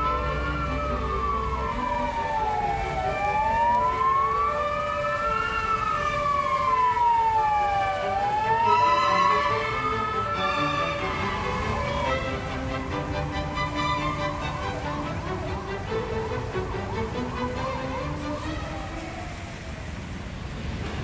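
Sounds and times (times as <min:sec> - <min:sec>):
siren wailing: 0:00.0 - 0:20.2.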